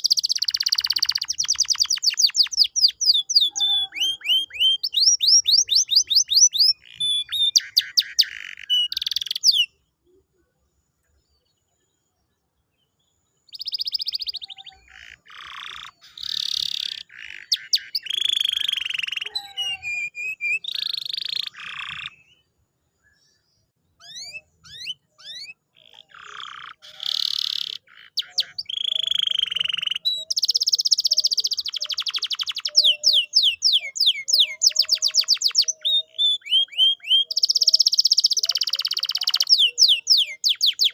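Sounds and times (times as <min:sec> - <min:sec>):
canary singing trills: 0:00.0 - 0:10.4, 0:11.0 - 0:40.9.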